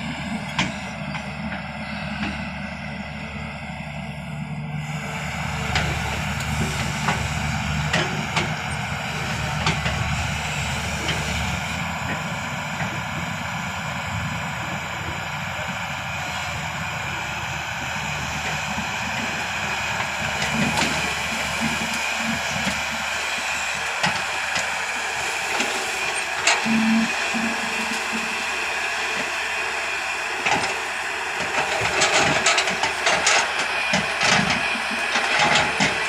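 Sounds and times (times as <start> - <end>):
digging machine diesel engine: 0.0 - 36.0.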